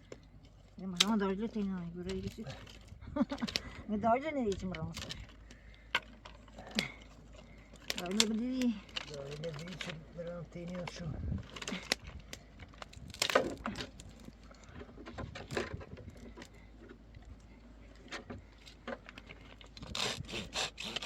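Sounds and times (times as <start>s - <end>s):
rustling: 0.0s - 21.0s.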